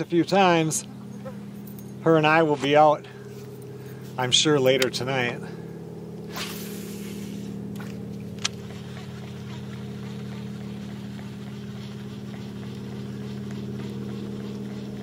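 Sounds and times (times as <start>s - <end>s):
plane piston engine droning overhead: 0.0s - 15.0s.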